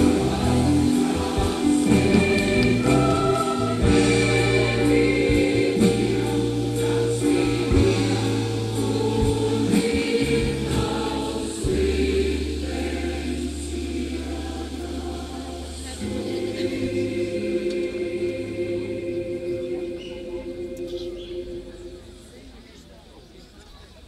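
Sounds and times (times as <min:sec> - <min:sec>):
massed choir singing chords: 0:00.0 - 0:23.2.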